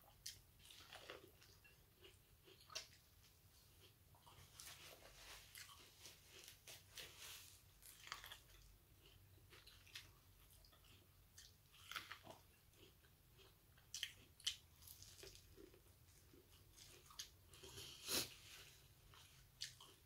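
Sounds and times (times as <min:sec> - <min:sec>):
crunching and chewing corn: 0:00.0 - 0:20.0.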